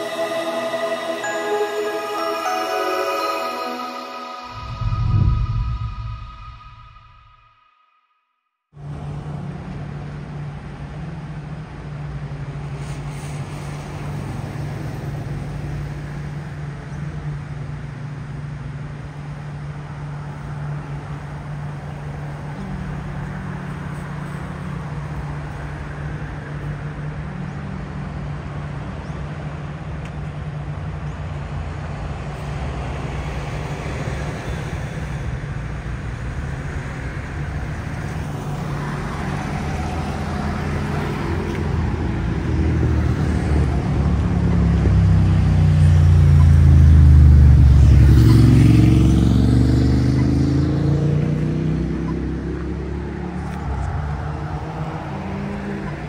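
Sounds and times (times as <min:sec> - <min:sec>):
street traffic hum: 0:08.8 - 0:56.0.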